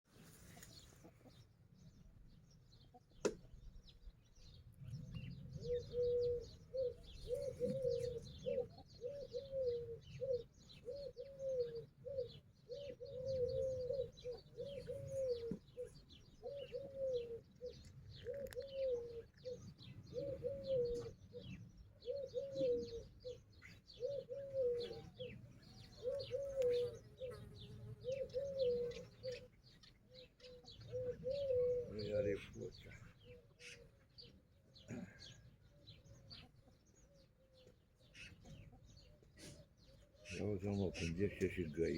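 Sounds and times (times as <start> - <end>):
small birds chirping: 0.1 - 41.9
chickens making low calls: 4.8 - 41.4.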